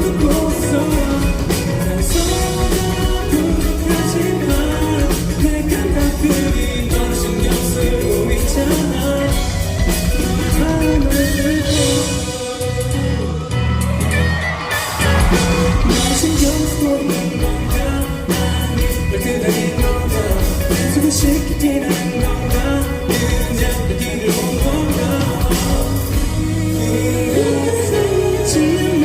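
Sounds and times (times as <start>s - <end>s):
live band playing pop: 0.0s - 29.0s
person singing: 0.0s - 29.0s.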